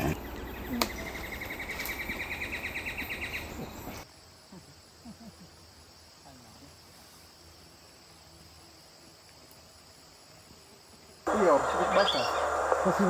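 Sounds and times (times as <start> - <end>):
insects with high thin hum: 0.0 - 13.0.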